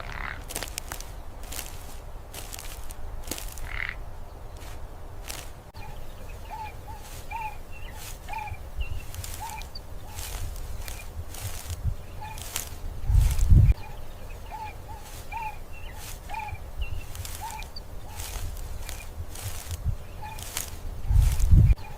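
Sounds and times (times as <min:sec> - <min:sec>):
short animal calls: 0:00.0 - 0:00.6, 0:03.3 - 0:04.0, 0:04.6 - 0:21.9
rustling stroke: 0:00.0 - 0:05.8, 0:06.7 - 0:13.8, 0:14.7 - 0:21.8.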